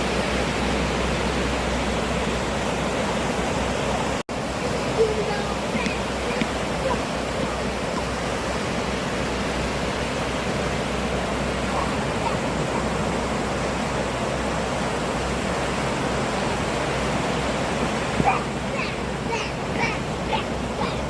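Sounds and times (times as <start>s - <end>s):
sea waves breaking: 0.0s - 21.0s.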